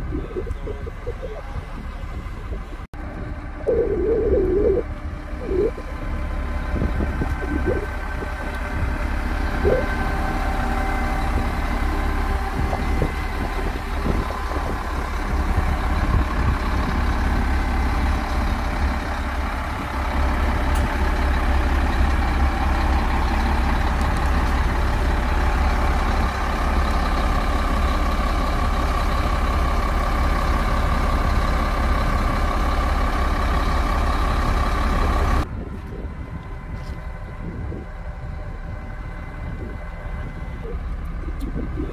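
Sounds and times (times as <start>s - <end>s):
diesel wheel loaders rumbling: 0.0s - 41.9s.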